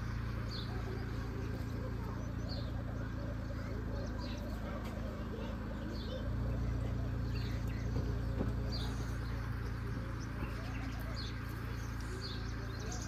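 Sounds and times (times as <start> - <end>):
bird chirping: 0.0 - 13.0
car engine running: 0.0 - 13.0.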